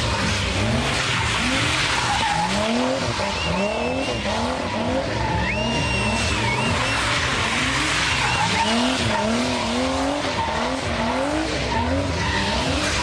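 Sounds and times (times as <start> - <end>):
car engines revving: 0.0 - 13.0
high tyre squeal: 0.0 - 13.0.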